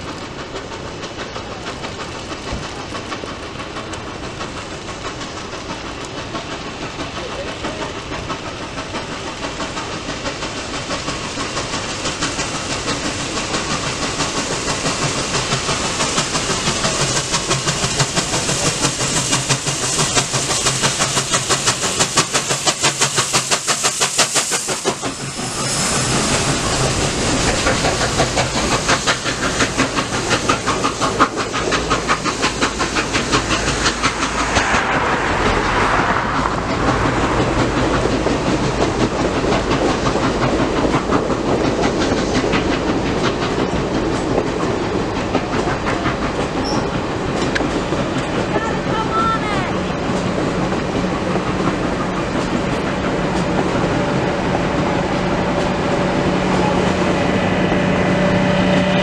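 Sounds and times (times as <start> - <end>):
steam locomotive chuffing: 0.0 - 59.0
train cars clickety-clack: 0.0 - 59.0.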